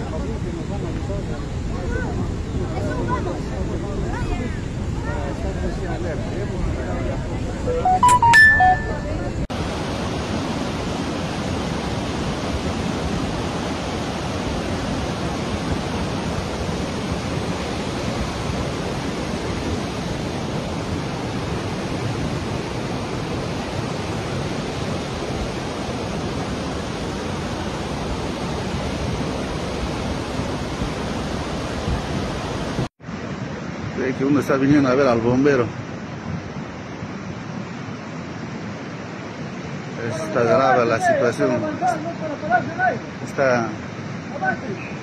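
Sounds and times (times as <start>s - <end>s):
river rushing: 0.0s - 45.0s.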